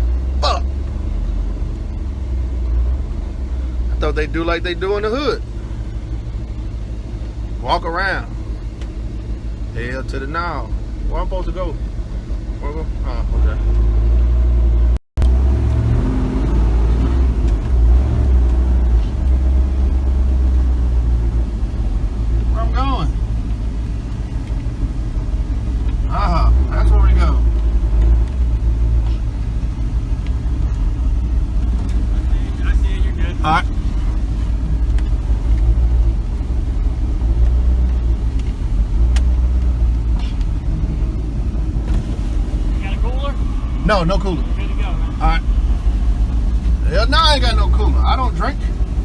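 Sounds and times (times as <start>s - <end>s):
pickup truck engine rumbling: 0.0s - 49.0s.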